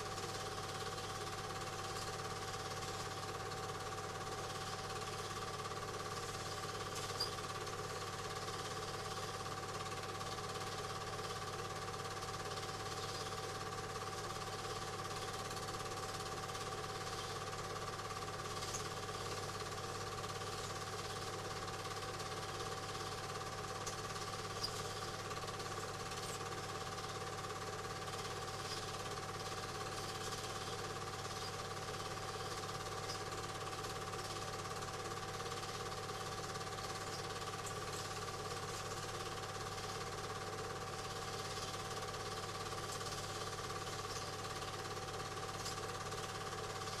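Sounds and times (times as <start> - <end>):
film projector whirring: 0.0 - 47.0
motor hum: 0.0 - 47.0.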